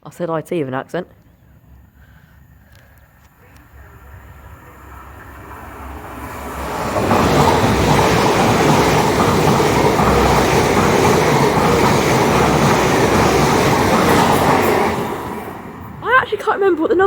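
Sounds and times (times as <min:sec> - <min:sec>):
train passing at speed: 0:01.0 - 0:17.0.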